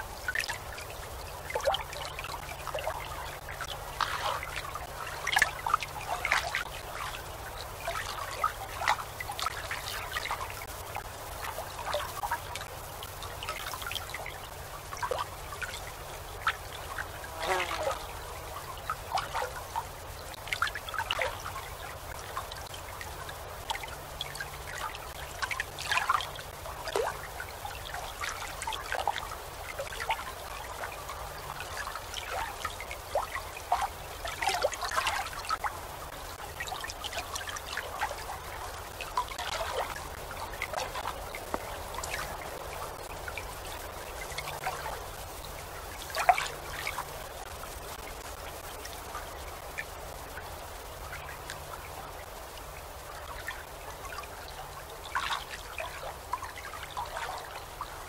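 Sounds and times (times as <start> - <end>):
water lapping and gurgling: 0.0 - 58.0.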